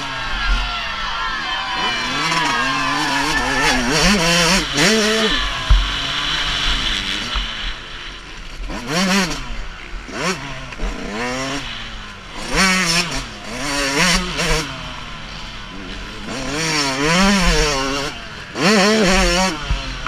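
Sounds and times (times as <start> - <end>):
two-stroke motocross bike revving: 0.0 - 20.0.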